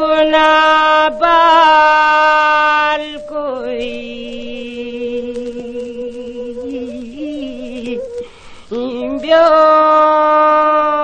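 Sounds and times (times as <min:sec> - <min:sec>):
person singing folk song: 0:00.0 - 0:11.0.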